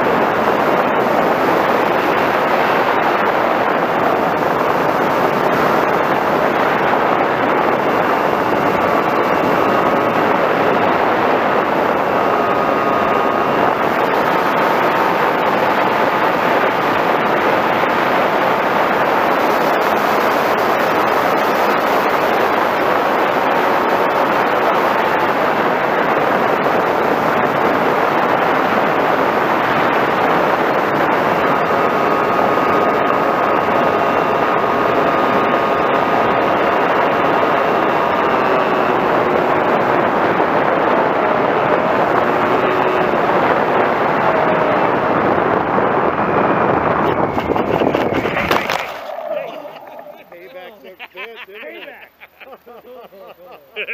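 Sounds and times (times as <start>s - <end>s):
rushing wind: 0.0s - 52.0s
electric motor and propeller whine: 0.0s - 53.9s.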